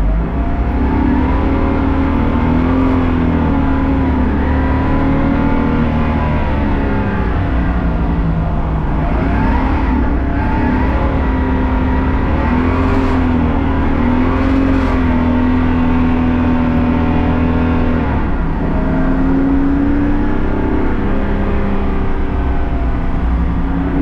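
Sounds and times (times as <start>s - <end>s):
race car engine running hard: 0.0s - 24.0s.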